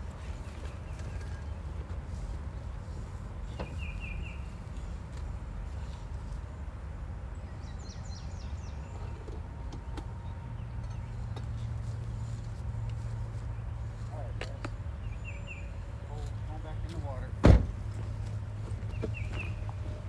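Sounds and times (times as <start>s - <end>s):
songbird chirps: 0.1s - 17.2s, 18.0s - 20.0s.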